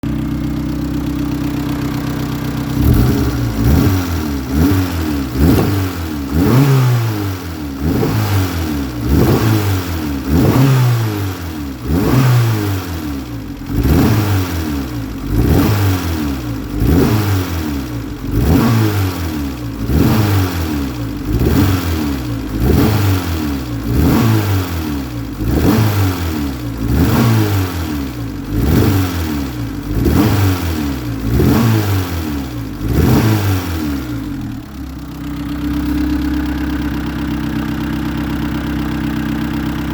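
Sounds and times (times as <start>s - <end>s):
car engine idling and revving: 0.0s - 39.9s
exhaust backfiring: 0.0s - 39.9s.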